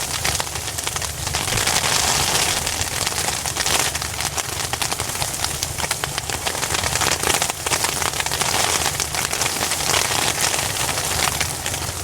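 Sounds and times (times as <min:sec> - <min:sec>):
low steady rumble: 0:00.0 - 0:10.0
hail falling: 0:00.0 - 0:12.0.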